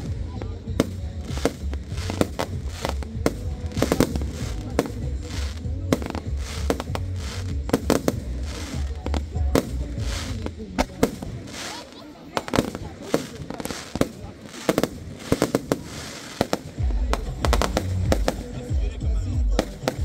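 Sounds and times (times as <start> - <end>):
fireworks shells bursting: 0.0 - 18.7
music playing: 0.0 - 20.0.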